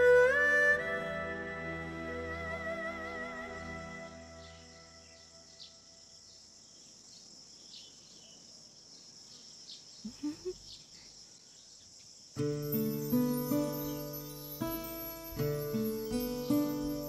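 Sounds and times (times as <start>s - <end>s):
bird chirps: 2.2s - 17.0s
crickets chirring: 2.5s - 17.0s.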